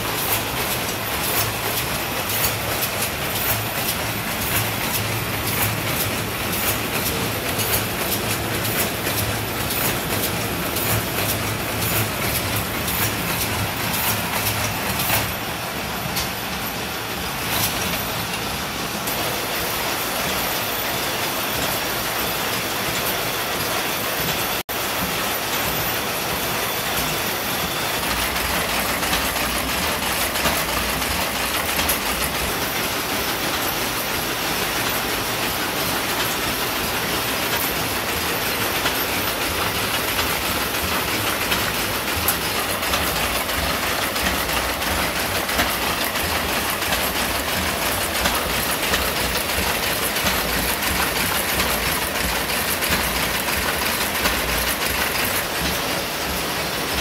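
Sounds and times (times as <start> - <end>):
power looms clattering: 0.0 - 57.0.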